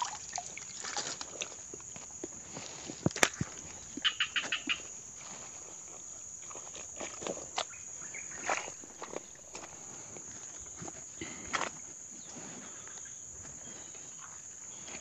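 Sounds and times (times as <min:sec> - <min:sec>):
feet moving through wet undergrowth: 0:00.0 - 0:15.0
insects droning: 0:00.0 - 0:15.0.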